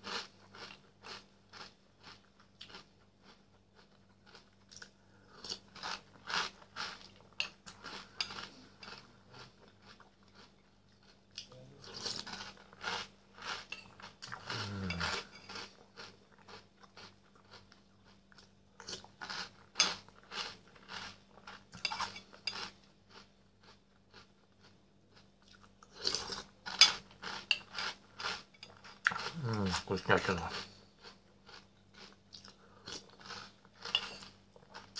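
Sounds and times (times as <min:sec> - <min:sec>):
crunchy cereal chewing: 0:00.0 - 0:34.9.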